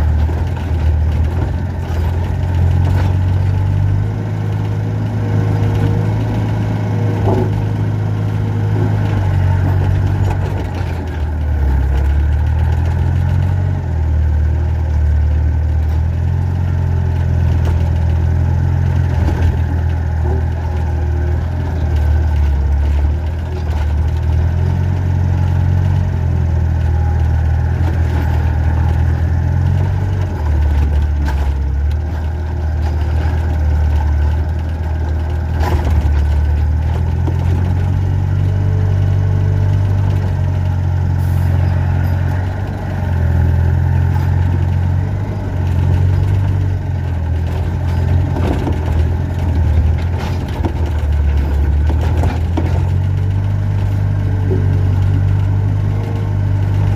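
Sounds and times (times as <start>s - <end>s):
excavator diesel engine droning: 0.0s - 56.9s.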